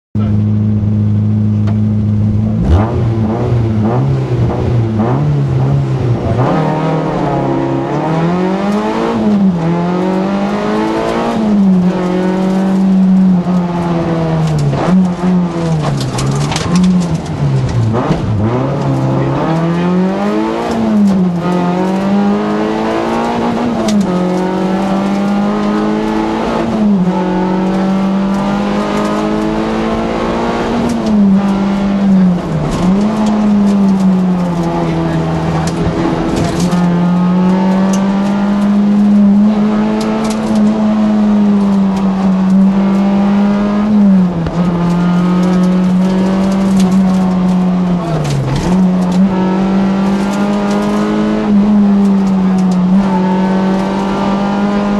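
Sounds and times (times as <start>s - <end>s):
car engine revving: 0.2s - 54.9s.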